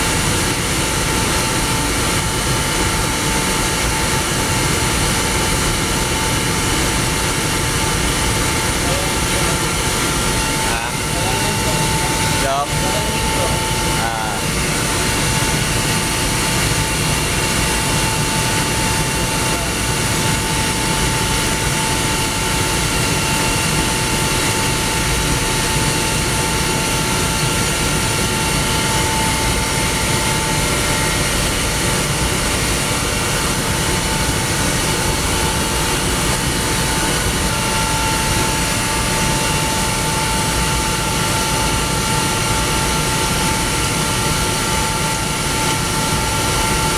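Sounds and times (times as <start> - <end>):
air compressor running: 0.0 - 46.9.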